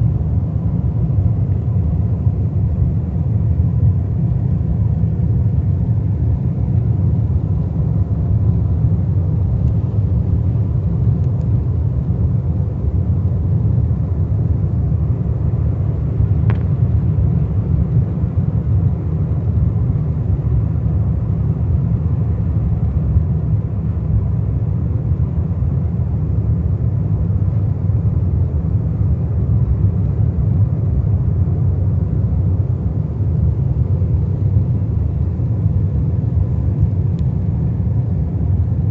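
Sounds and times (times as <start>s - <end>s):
airliner cabin rumble: 0.0s - 38.9s
faint steady hum: 0.0s - 38.9s.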